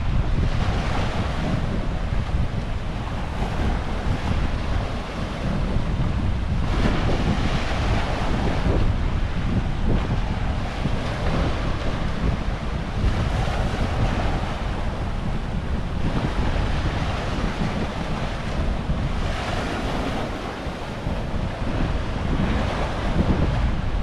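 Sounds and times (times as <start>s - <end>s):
ocean waves washing: 0.0s - 24.0s
wind buffeting microphone: 0.0s - 24.0s.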